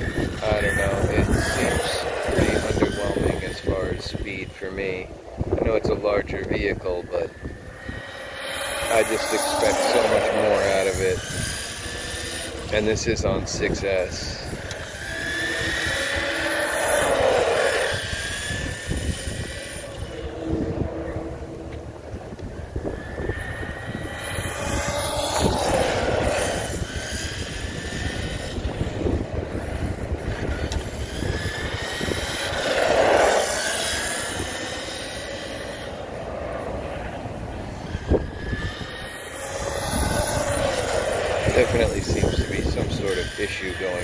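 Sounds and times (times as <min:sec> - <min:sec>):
electric motor whining: 0:00.0 - 0:44.0.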